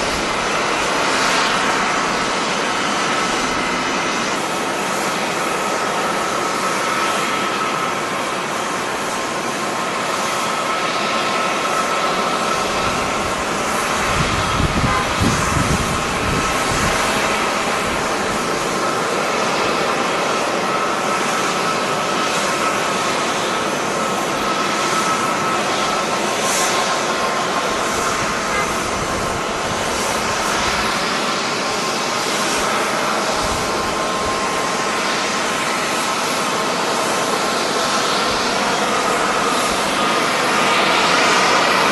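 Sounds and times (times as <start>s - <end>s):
jet engine rushing and whine: 0.0s - 41.9s.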